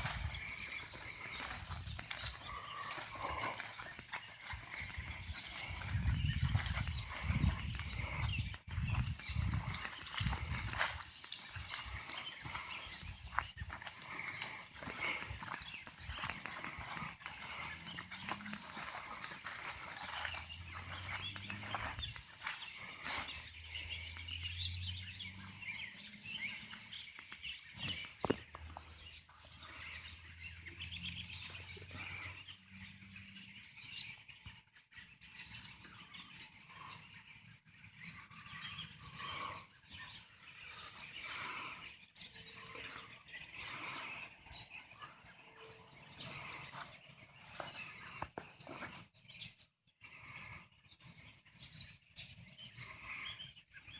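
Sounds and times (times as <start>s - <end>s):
flock of birds chirping: 0.0s - 53.9s.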